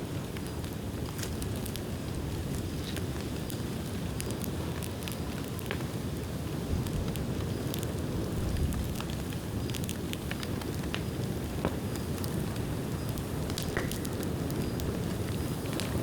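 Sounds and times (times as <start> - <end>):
bamboo crackling and popping: 0.0 - 16.0
fire rumbling: 0.0 - 16.0.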